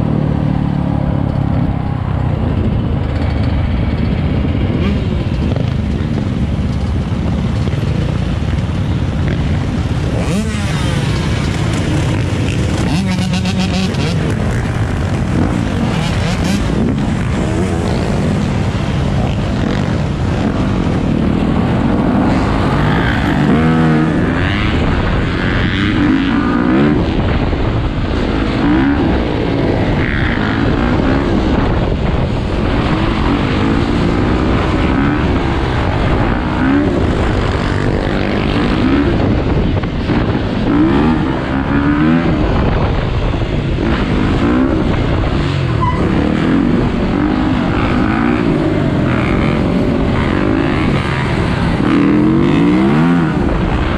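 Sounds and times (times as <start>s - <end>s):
dirt bike engine revving: 0.0s - 27.4s, 28.0s - 42.8s, 43.5s - 53.9s
other dirt bikes and four-wheelers: 0.0s - 53.9s.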